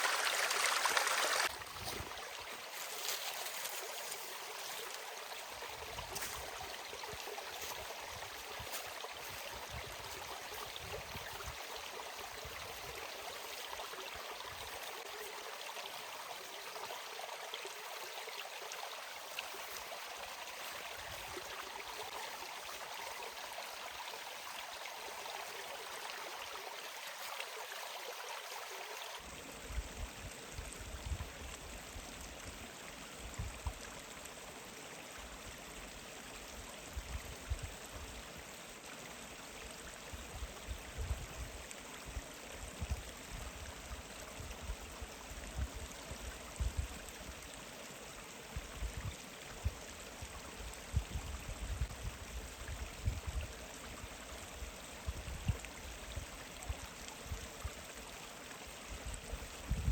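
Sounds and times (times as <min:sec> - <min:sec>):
mountain stream running: 0:00.0 - 0:59.9.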